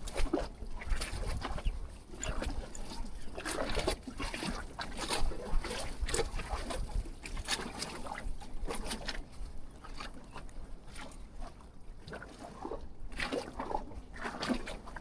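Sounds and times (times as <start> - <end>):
waves slapping against jetty: 0.0 - 15.0
wind rumbling on microphone: 0.0 - 15.0.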